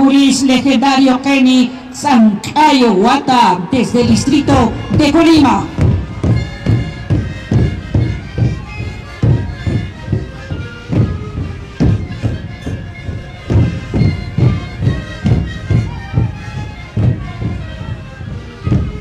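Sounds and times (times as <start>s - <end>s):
panpipes playing melody: 0.0s - 19.0s
bass drums beating: 3.7s - 19.0s.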